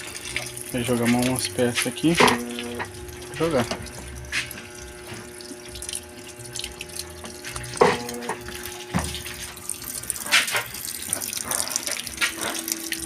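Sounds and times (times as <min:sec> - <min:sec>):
water filling washing machine: 0:00.0 - 0:13.0.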